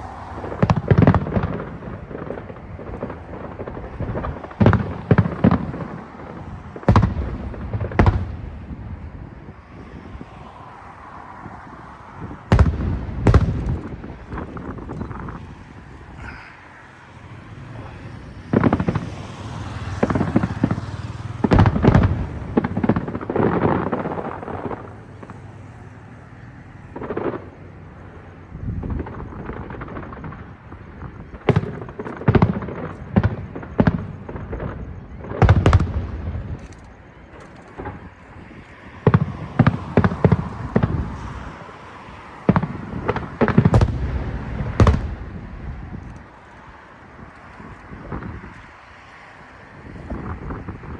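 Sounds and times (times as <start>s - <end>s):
fireworks booms and cracks: 0.0s - 16.6s, 17.3s - 26.0s, 26.7s - 48.6s.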